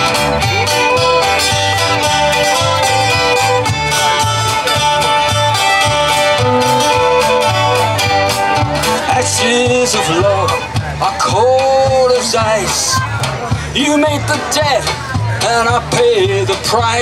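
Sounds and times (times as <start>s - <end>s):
fiddle: 0.0s - 17.0s
steady drum beat: 0.0s - 17.0s
strummed acoustic guitars: 0.0s - 17.0s.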